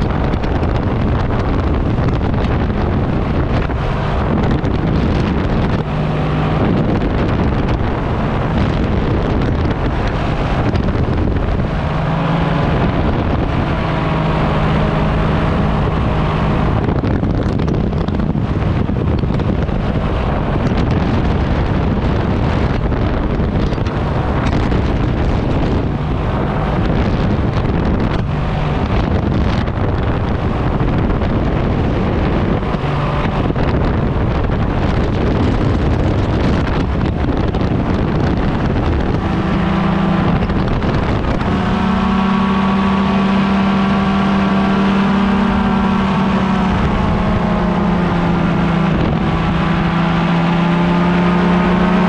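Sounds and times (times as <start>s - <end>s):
paramotor engine droning: 0.0s - 52.0s
wind rushing over microphone: 0.0s - 52.0s.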